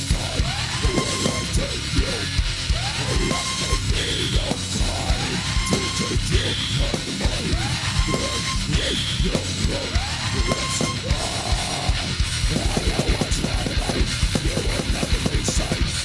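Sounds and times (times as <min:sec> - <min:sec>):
dense drumming: 0:00.0 - 0:16.0
distorted guitars: 0:00.0 - 0:16.0.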